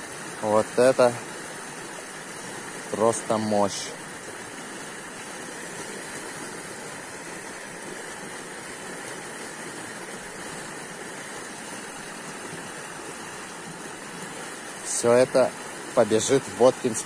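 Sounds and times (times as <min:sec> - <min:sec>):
water gushing from a pipe: 0:00.0 - 0:17.0.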